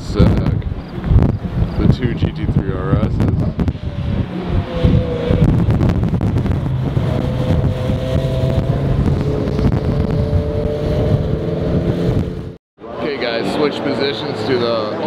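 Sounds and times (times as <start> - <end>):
sports car engines passing: 0.4 - 15.0.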